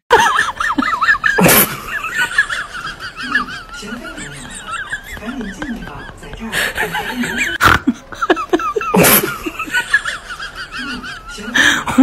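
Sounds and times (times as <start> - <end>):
person laughing: 0.1 - 12.0.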